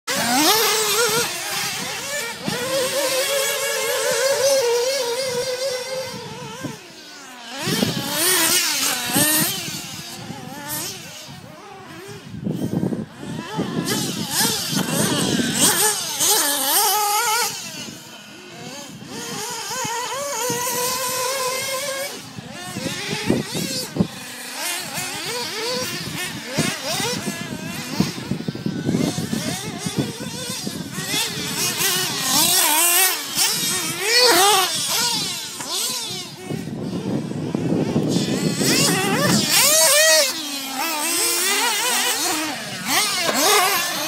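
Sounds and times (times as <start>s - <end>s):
small engines whining: 0.0s - 44.0s.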